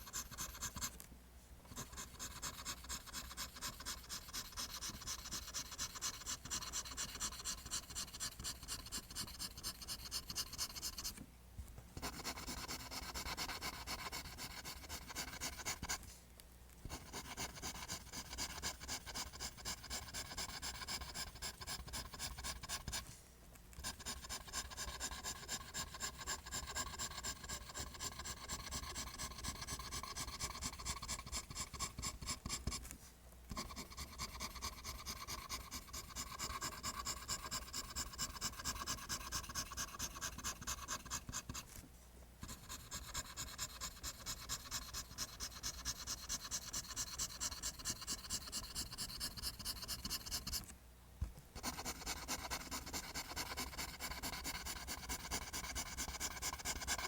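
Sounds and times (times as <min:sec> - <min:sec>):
pencil scratching on paper: 0:00.0 - 0:01.0, 0:01.7 - 0:11.2, 0:12.0 - 0:16.0, 0:16.9 - 0:23.1, 0:23.8 - 0:32.9, 0:33.5 - 0:41.8, 0:42.4 - 0:50.7, 0:51.6 - 0:57.0.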